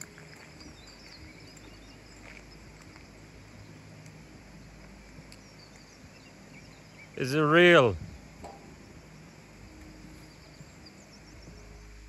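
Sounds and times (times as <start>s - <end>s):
faint outdoor ambience: 0.0s - 12.0s.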